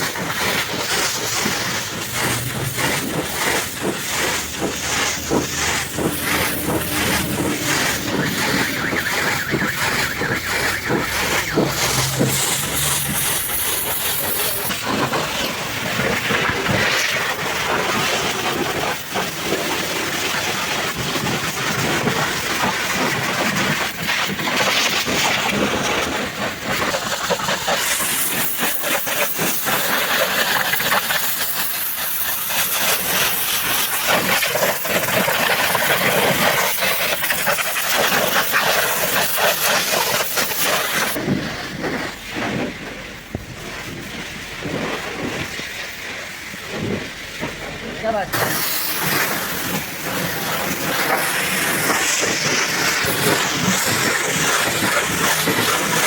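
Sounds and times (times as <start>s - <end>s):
pressure washer spraying water: 0.0s - 41.3s, 48.0s - 56.0s.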